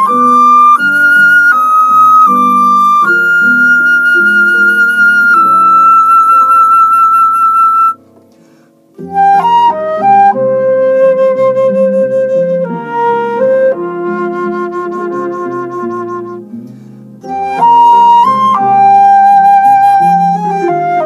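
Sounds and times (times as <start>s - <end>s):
flute melody: 0.0s - 8.0s, 9.0s - 21.0s
lower musical accompaniment: 0.0s - 21.0s.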